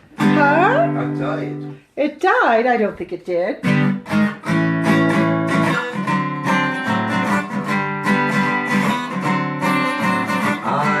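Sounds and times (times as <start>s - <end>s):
guitar strummed: 0.0s - 1.8s, 3.6s - 11.0s.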